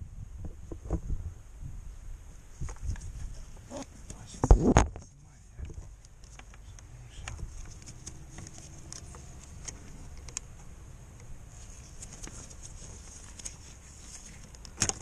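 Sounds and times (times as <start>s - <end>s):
steady faint hiss: 0.0s - 15.0s.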